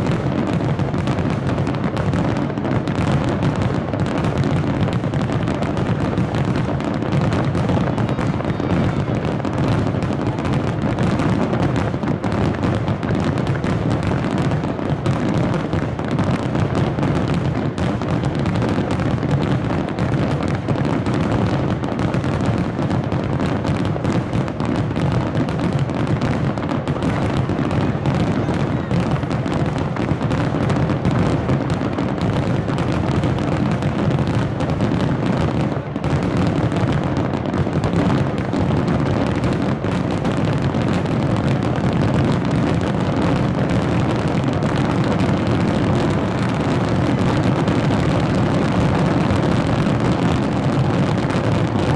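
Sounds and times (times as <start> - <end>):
fireworks bursts and crackles: 0.0 - 51.9.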